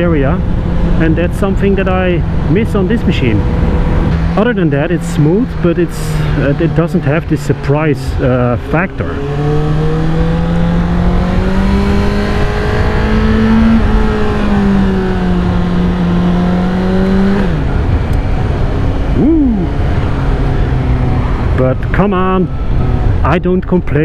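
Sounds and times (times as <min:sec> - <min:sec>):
motorcycle engine: 0:00.0 - 0:24.0
wind and road noise: 0:00.0 - 0:24.0.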